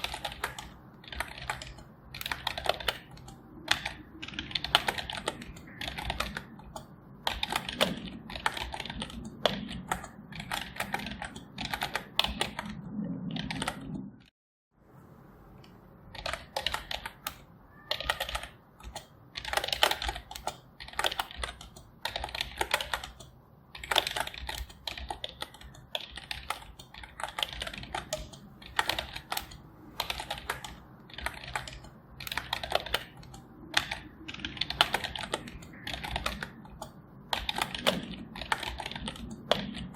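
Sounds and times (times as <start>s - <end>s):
keyboard typing clicks: 0.0s - 14.1s, 15.6s - 39.9s.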